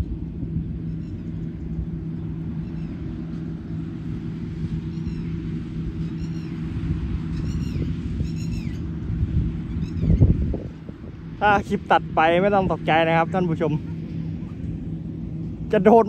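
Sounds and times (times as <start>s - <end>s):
diesel engines droning: 0.0s - 16.0s.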